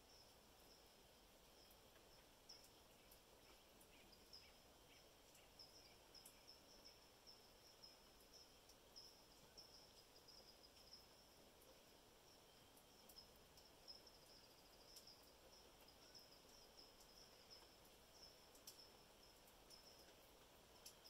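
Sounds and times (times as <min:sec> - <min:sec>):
soft even hiss: 0:00.0 - 0:21.0.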